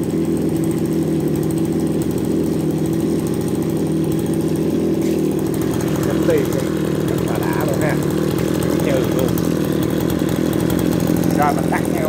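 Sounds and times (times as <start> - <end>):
brush cutter engine running: 0.0 - 12.0.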